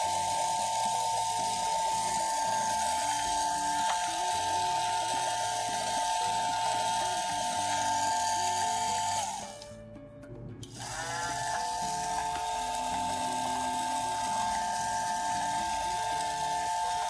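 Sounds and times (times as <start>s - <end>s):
small battery motor whirring: 0.0s - 9.8s, 10.6s - 17.0s.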